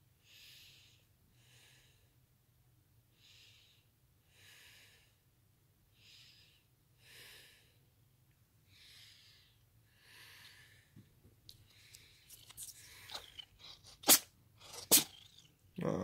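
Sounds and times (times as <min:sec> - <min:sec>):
faint breaths: 0:00.2 - 0:02.3, 0:03.1 - 0:08.0, 0:08.6 - 0:15.5.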